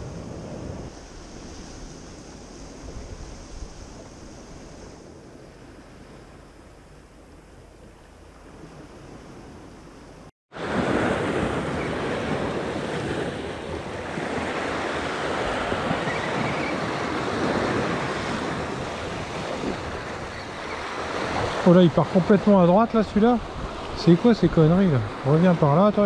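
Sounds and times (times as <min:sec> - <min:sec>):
wind on microphone: 0:00.0 - 0:25.2
sea surf washing on shore: 0:00.0 - 0:26.0.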